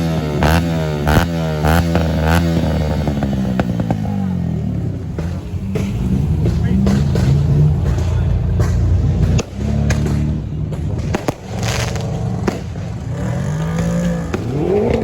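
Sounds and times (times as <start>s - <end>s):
car engines revving: 0.0s - 15.0s
sharp cracks: 0.0s - 15.0s.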